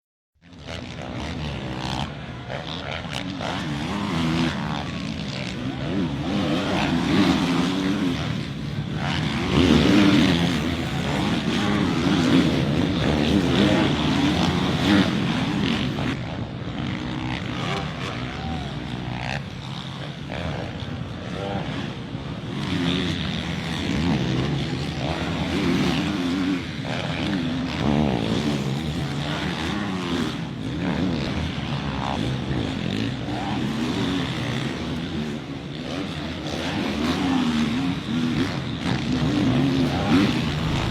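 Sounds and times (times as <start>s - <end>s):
dirt bike engines revving: 0.4s - 40.9s.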